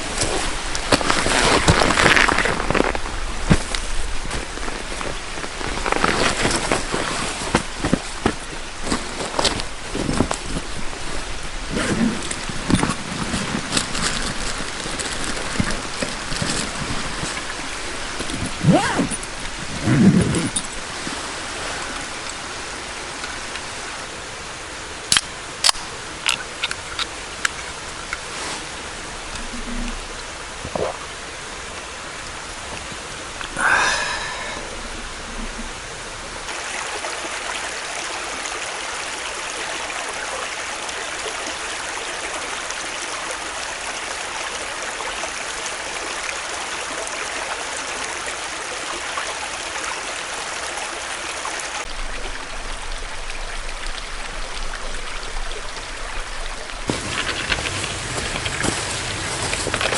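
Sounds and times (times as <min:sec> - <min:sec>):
rushing flowing water: 0:00.0 - 0:59.9.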